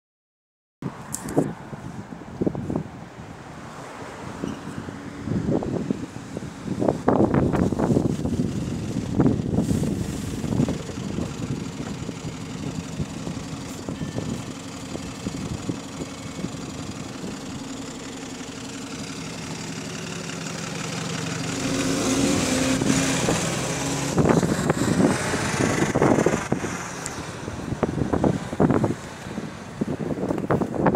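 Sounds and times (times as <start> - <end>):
bus engine drone: 0.8 - 30.9
wind buffeting microphone: 0.8 - 30.9.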